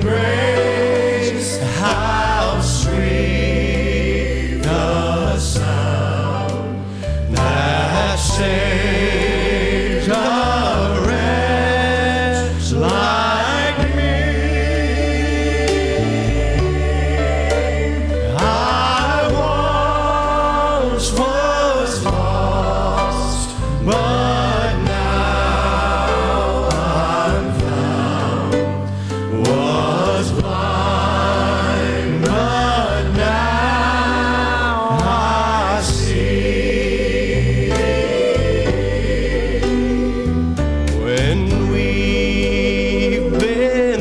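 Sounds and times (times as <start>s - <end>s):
gospel singing with accompaniment: 0.0s - 44.0s.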